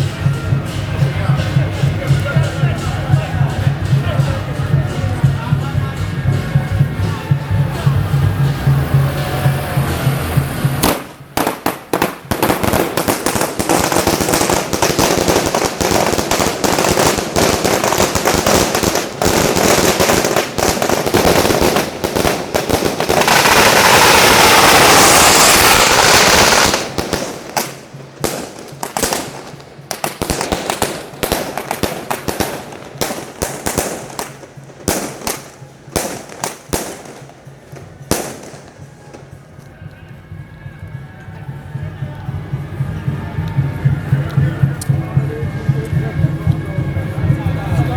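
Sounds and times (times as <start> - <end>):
firecrackers crackling: 0.0 - 40.4.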